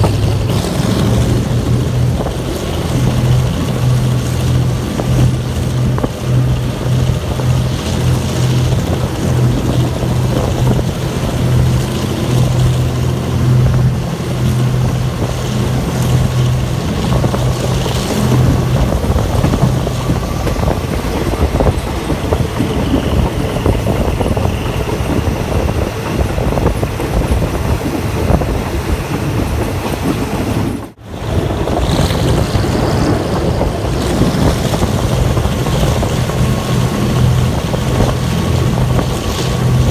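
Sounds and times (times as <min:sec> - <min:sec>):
low engine drone: 0:00.0 - 0:39.9
train rumble and wind noise: 0:00.0 - 0:39.9.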